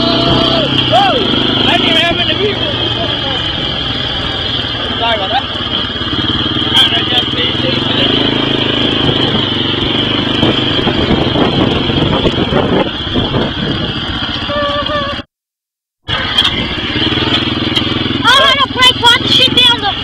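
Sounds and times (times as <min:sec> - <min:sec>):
rattling over bumpy ground: 0:00.0 - 0:15.2, 0:16.1 - 0:20.0
atv engine running hard: 0:00.0 - 0:15.3, 0:16.0 - 0:20.0.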